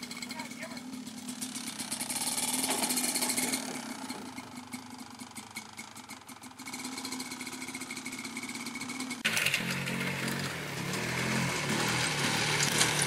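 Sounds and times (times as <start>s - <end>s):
dirt bike engine: 0.0s - 13.0s.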